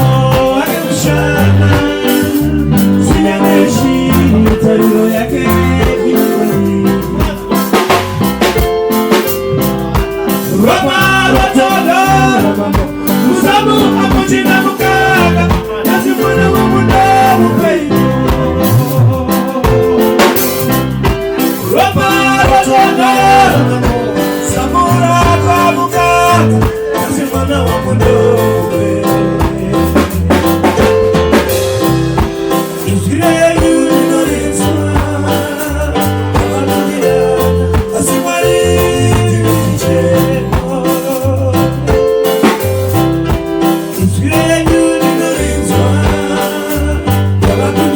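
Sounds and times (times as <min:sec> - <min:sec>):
band music: 0:00.0 - 0:47.9
person singing: 0:00.0 - 0:47.9.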